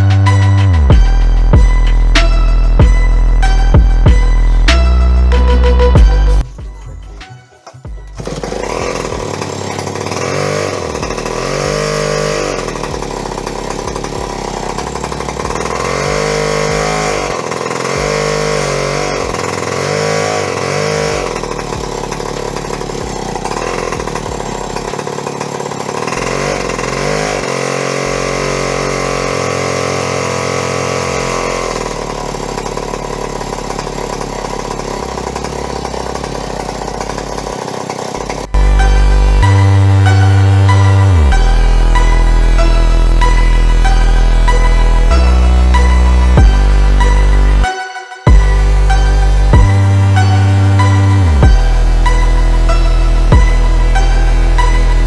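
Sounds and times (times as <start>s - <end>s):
chainsaw revving: 8.0s - 47.7s, 48.3s - 55.0s.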